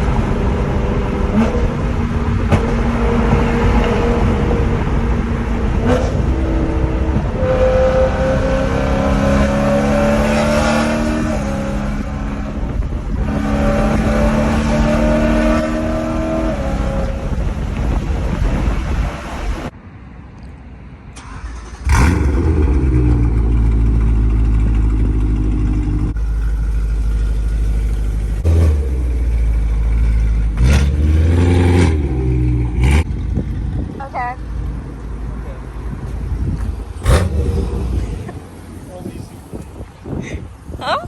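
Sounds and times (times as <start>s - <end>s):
car engine revving: 0.0s - 19.7s, 21.3s - 39.8s.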